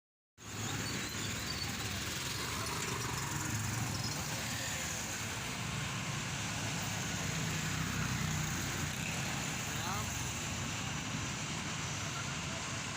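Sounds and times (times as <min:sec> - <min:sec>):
road and traffic noise: 0:00.4 - 0:12.9.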